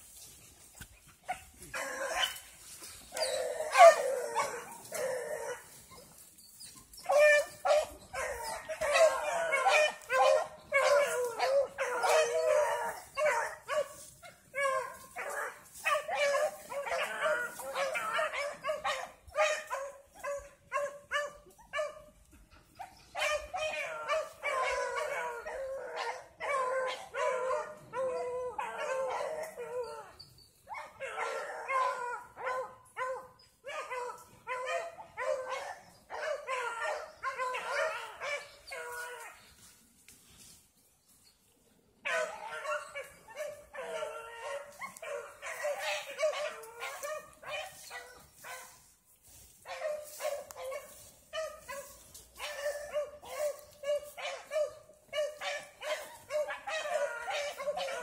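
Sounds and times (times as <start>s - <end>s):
hounds baying and howling: 0.0s - 58.0s.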